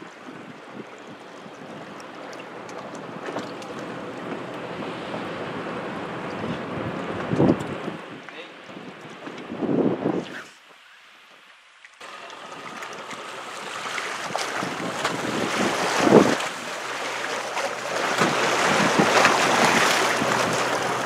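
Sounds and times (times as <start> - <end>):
waves splashing against rocks: 0.0 - 8.0, 11.9 - 21.0.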